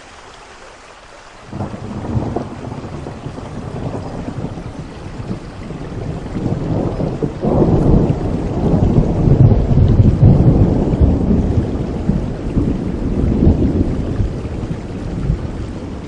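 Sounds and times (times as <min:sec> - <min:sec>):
steady rain: 0:00.0 - 0:16.0
thunder rolling: 0:01.5 - 0:16.0.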